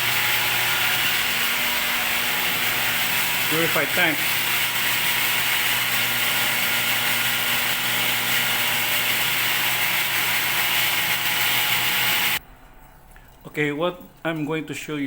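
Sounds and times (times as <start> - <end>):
electric pump motors humming: 0.0 - 12.4.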